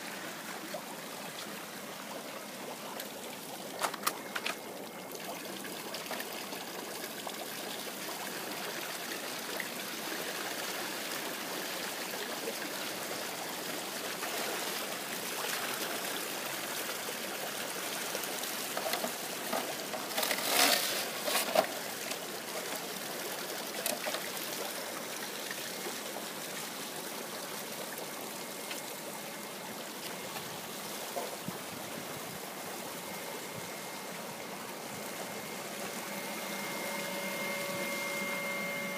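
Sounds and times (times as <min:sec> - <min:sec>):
water trickling through pipes: 0:00.0 - 0:38.9.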